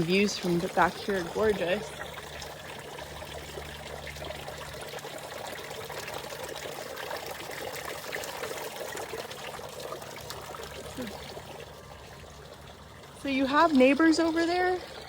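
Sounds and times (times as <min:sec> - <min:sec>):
water fountain splashing: 0:00.0 - 0:15.0.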